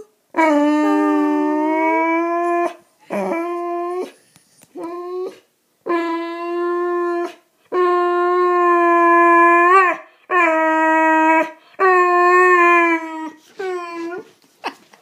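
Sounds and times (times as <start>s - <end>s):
dog howling: 0.0s - 4.2s, 4.8s - 14.3s.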